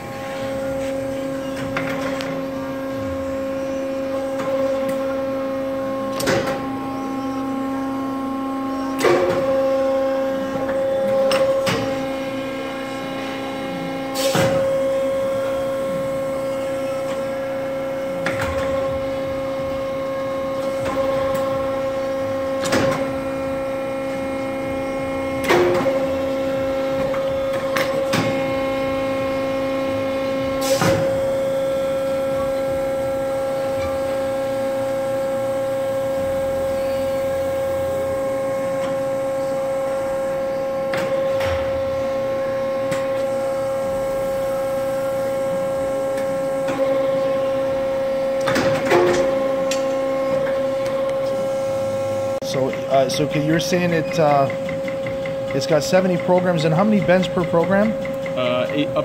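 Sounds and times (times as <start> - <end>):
hydraulic power unit humming: 0.0 - 59.0.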